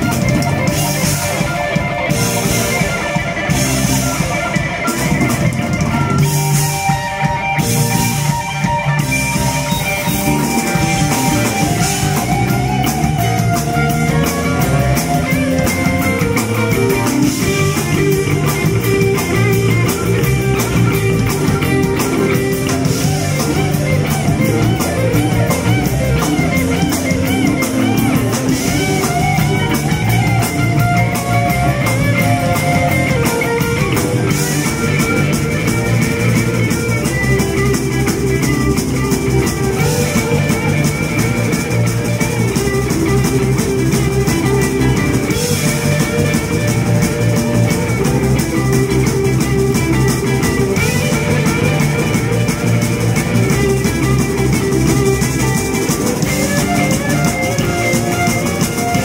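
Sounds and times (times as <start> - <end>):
bass guitar: 0.0 - 59.0
drum kit with cymbal strokes: 0.0 - 59.0
electric guitar lines: 0.0 - 59.0.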